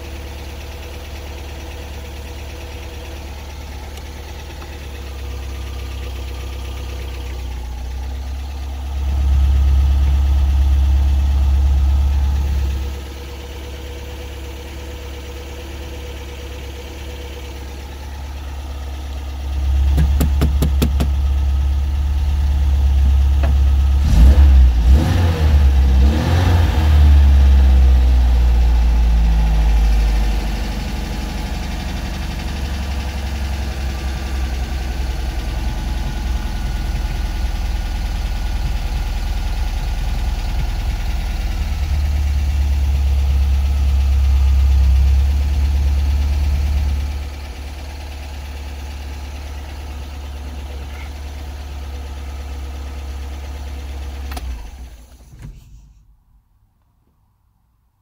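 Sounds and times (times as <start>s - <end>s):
car engine idling and revving: 0.0s - 56.1s.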